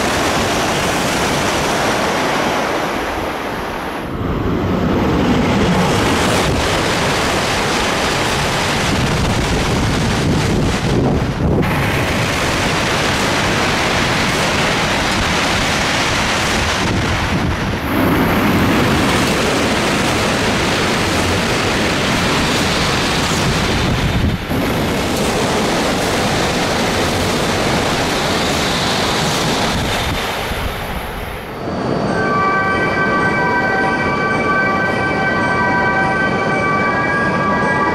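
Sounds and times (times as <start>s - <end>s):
high-speed trains passing: 0.0s - 37.9s.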